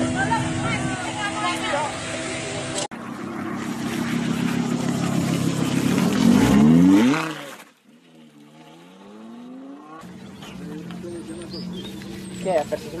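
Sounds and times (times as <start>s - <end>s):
car engine revving hard: 0.0s - 7.6s, 8.2s - 13.0s
sports car engine accelerating: 0.0s - 13.0s.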